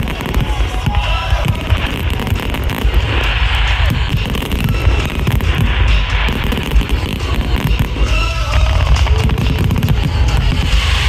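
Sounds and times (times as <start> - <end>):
fireworks booming and crackling: 0.0 - 11.0
music playing: 0.0 - 11.0.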